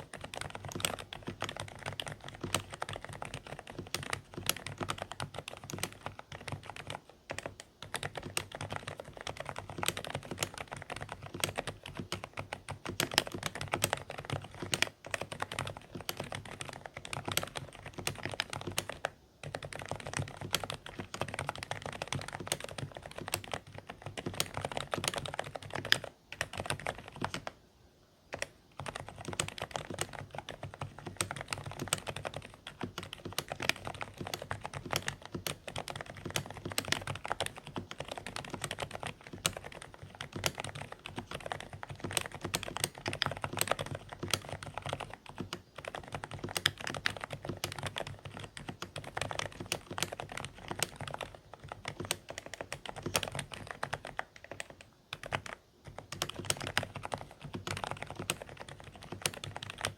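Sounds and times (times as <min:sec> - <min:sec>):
muffled keyboard typing: 0:00.0 - 0:27.6, 0:28.3 - 0:59.9.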